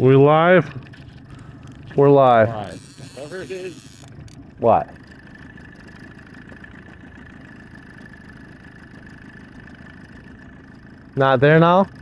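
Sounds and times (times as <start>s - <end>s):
outboard motor droning: 0.0s - 12.0s.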